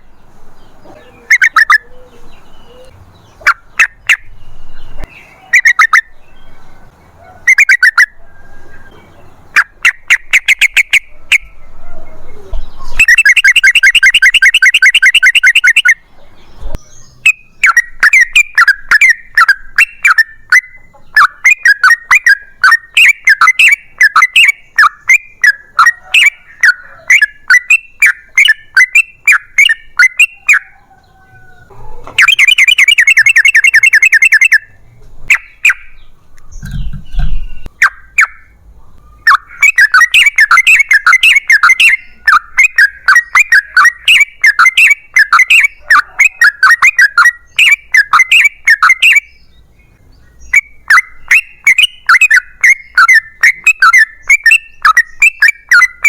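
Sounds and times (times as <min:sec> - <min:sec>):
bulbul chattering calls: 0:00.0 - 0:56.0.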